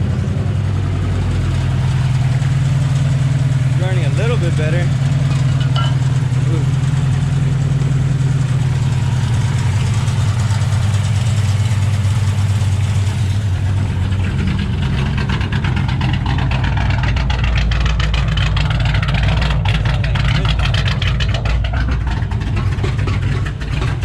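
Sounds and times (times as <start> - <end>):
car engine idling with misfire: 0.0 - 24.0.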